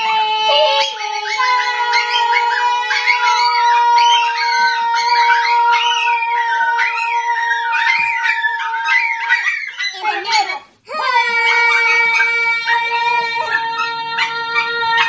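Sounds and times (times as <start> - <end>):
dogs howling: 0.0 - 15.0.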